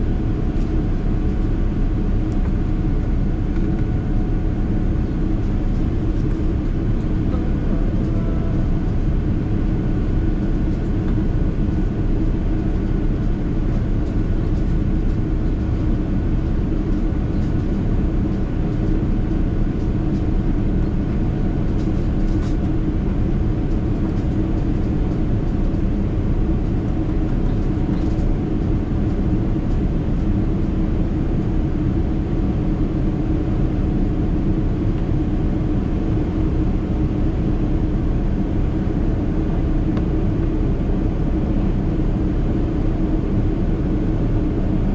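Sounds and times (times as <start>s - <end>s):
airplane engines at climb power: 0.0s - 44.9s
low hum: 0.0s - 44.9s.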